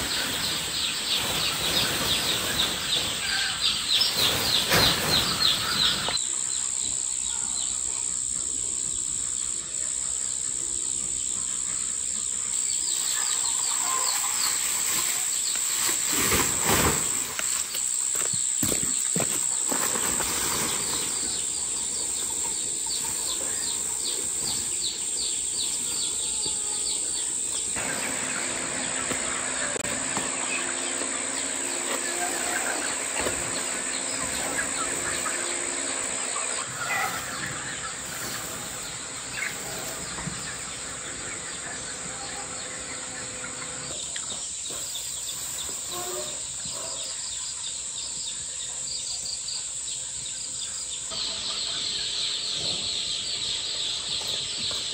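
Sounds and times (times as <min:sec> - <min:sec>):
chicks peeping: 0:00.0 - 0:54.9
high-pitched insect drone: 0:00.0 - 0:54.9.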